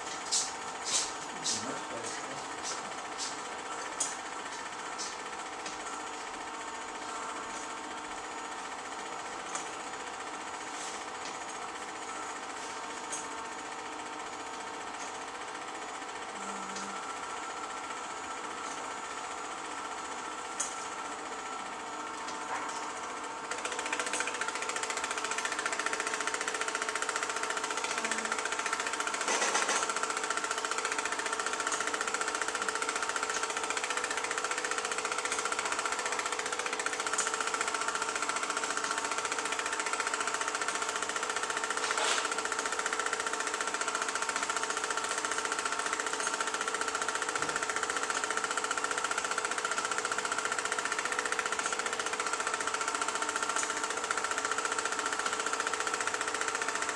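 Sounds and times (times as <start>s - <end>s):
film projector clattering: 0.0s - 56.9s
projector whine: 0.0s - 56.9s.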